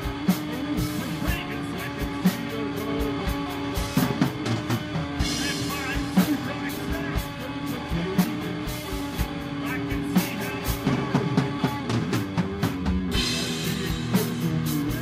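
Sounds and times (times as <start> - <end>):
drum kit steady beat: 0.0 - 15.0.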